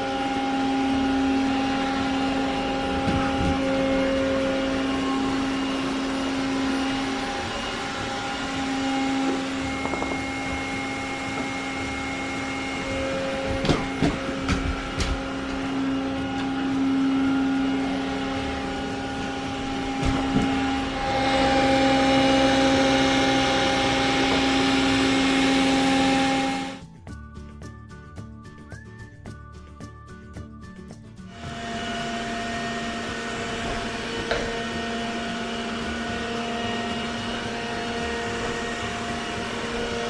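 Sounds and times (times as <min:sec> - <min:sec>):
robot vacuum motor humming: 0:00.0 - 0:26.8, 0:31.4 - 0:40.0.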